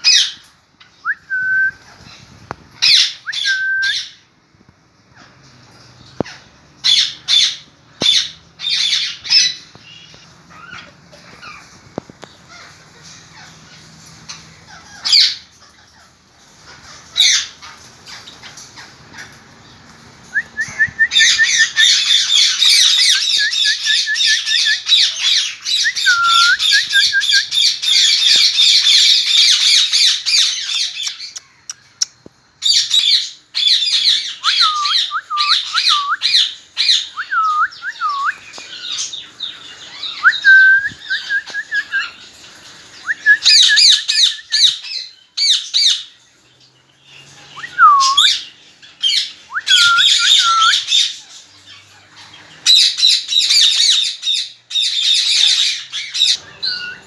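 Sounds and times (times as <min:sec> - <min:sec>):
parrots squawking: 0:06.2 - 0:19.5, 0:21.1 - 0:32.0, 0:32.6 - 0:46.1, 0:47.6 - 0:57.0.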